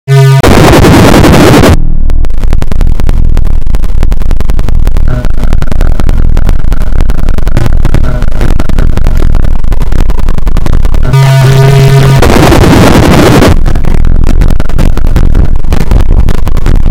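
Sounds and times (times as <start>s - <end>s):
distorted bass-boosted music: 0.1s - 16.9s.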